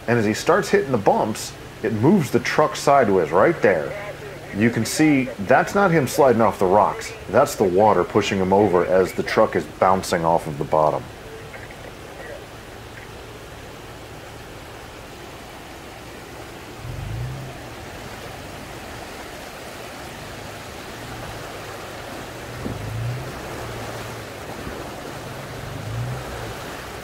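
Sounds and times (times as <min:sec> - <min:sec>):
truck engine revving: 0:00.0 - 0:14.9, 0:16.0 - 0:27.0
river water rushing: 0:00.0 - 0:27.0.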